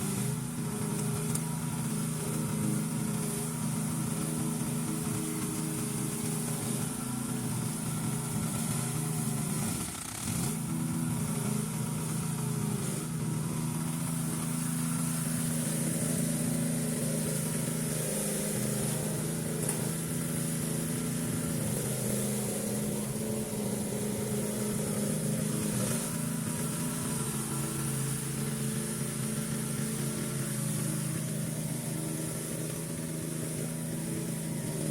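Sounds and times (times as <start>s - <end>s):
weed cutter motor humming: 0.0s - 34.9s.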